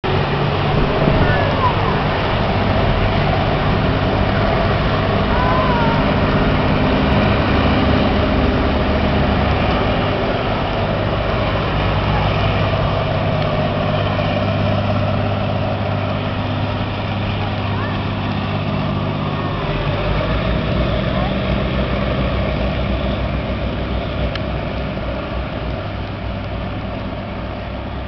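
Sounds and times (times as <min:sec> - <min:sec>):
hovercraft engines droning: 0:00.0 - 0:28.0.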